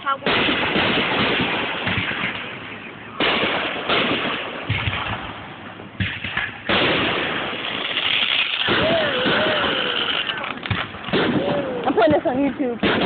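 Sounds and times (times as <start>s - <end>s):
fireworks bangs with crackle: 0.0s - 13.0s.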